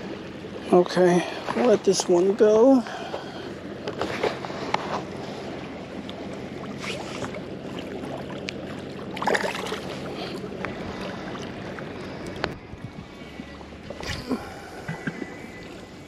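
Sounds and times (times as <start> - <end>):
low hum: 0.0 - 16.0
water lapping against bank: 0.0 - 16.0
fish splashing in shallow water: 2.8 - 16.0.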